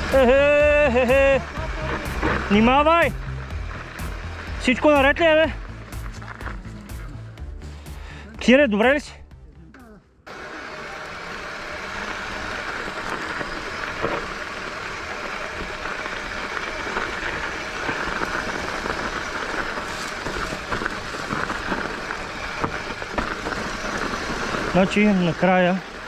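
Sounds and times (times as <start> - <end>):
bike rattling over rough ground: 0.0 - 7.4, 10.3 - 26.0
bike tyre rumble: 0.0 - 9.2, 10.3 - 26.0
wind: 0.0 - 26.0.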